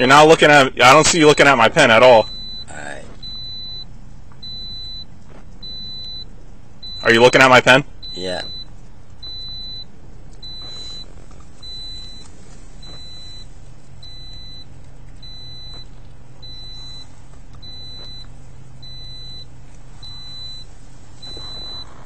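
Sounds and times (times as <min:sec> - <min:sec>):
steady low hum: 0:00.0 - 0:22.0
car door warning beep: 0:01.2 - 0:22.0.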